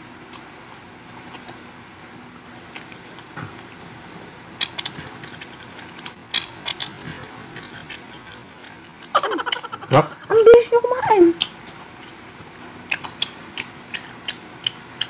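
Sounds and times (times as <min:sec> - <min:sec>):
mouth chewing with smacks: 0:00.3 - 0:01.7, 0:02.4 - 0:10.2, 0:11.4 - 0:15.0.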